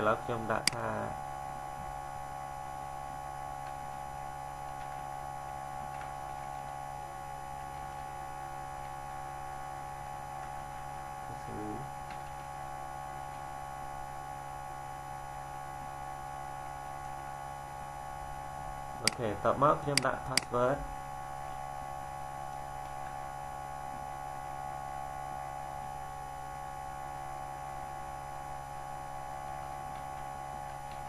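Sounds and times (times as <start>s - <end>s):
electrical hum and whine: 0.0s - 31.0s.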